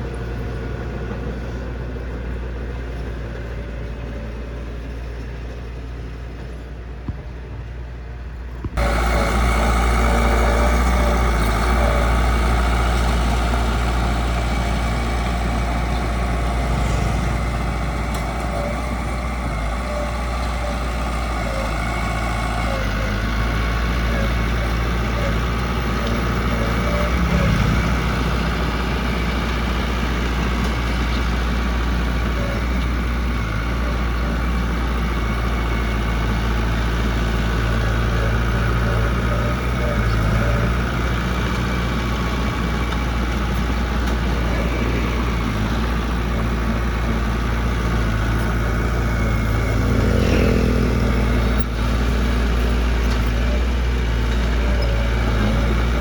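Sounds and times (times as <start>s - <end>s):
diesel machine engine running: 0.0s - 56.0s.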